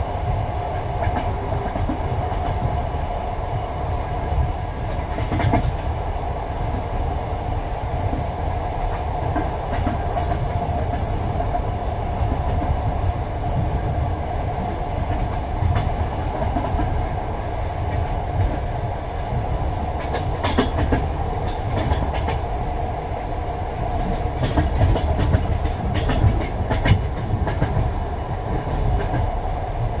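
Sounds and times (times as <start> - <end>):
train wheels clattering on rails: 0.0 - 6.1, 8.0 - 30.0.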